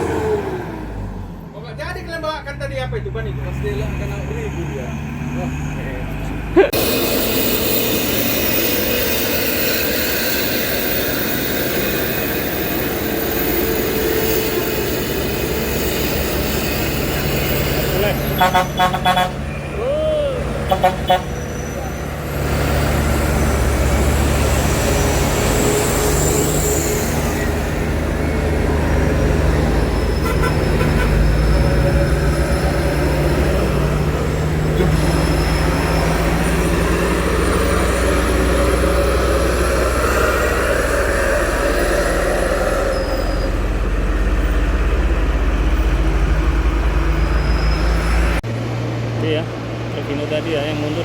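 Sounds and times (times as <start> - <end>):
diesel truck engine under load: 0.0 - 51.0.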